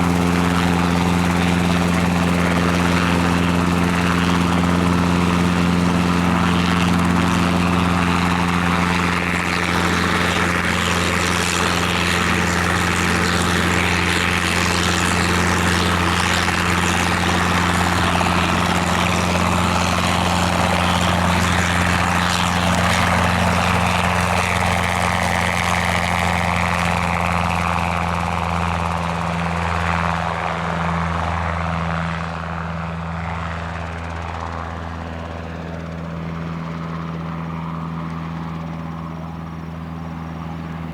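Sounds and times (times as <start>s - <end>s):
helicopter engine and rotors: 0.0s - 40.9s.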